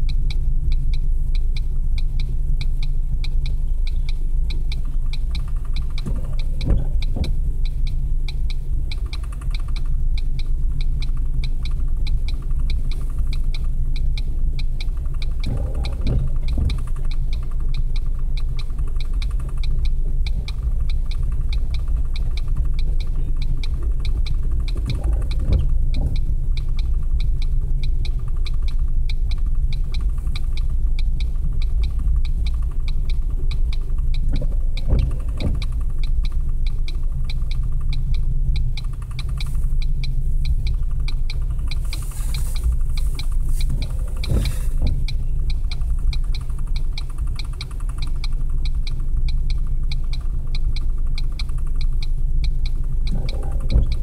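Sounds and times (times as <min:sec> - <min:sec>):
fast even ticking: 0:00.0 - 0:54.0
windshield wipers sweeping: 0:00.0 - 0:54.0.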